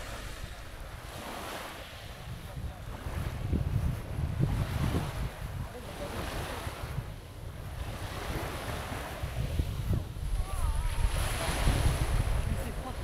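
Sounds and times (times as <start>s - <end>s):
sea waves washing onto beach: 0.0s - 13.0s
wind rumbling on microphone: 0.0s - 13.0s.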